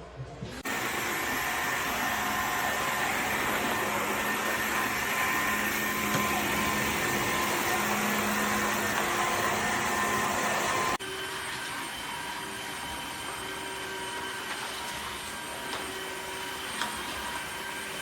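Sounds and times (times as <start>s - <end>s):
vacuum mop running: 0.6s - 18.0s.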